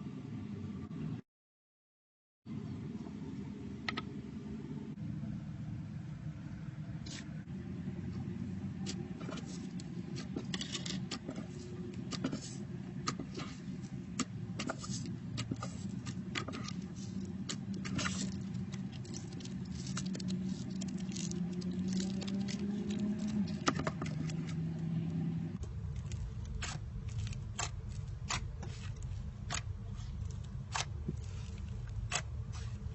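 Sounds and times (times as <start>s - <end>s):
steady low hum: 2.5s - 32.9s.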